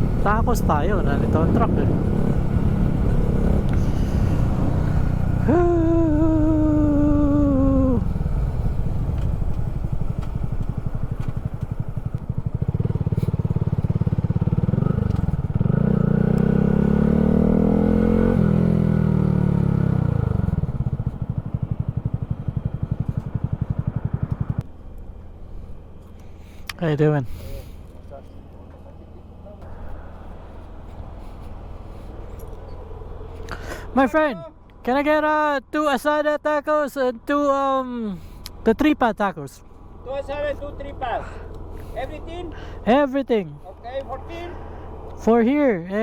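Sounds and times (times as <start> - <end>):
vehicle engine running: 0.0 - 26.7, 27.6 - 35.4, 37.1 - 46.0.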